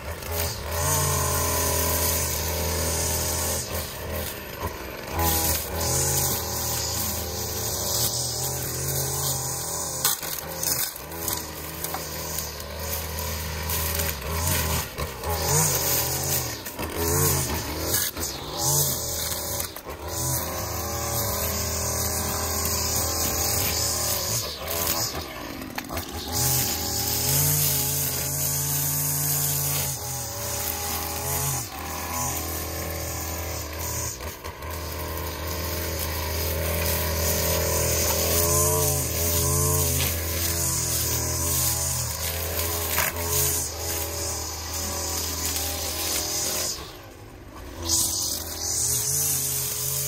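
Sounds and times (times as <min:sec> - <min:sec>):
gas string trimmer running: 0:00.0 - 0:50.0.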